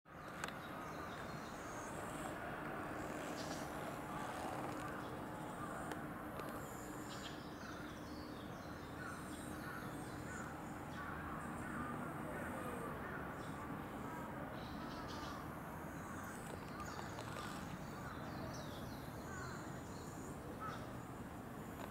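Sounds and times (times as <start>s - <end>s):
outdoor background hum: 0.1s - 21.9s.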